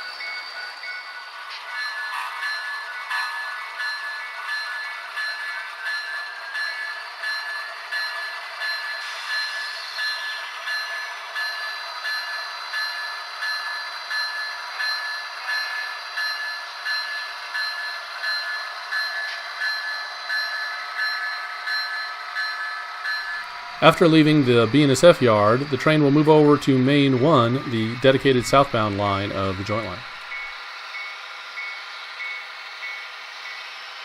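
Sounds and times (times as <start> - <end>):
model locomotive bell ringing: 0.0 - 34.0
model locomotive engine sound: 0.0 - 34.0.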